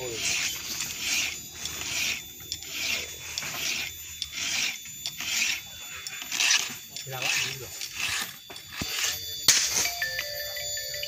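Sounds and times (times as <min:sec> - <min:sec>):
file rasping on chainsaw chain: 0:00.0 - 0:09.3.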